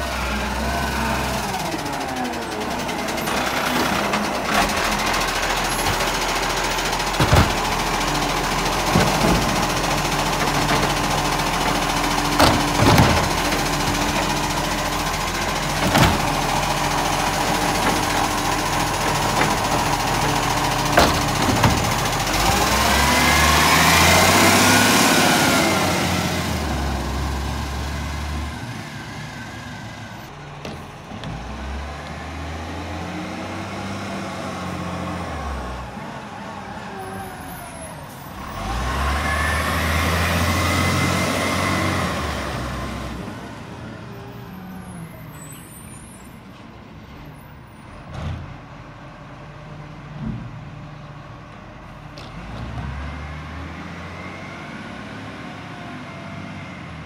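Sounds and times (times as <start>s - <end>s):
garbage trucks driving past: 0.0s - 57.0s.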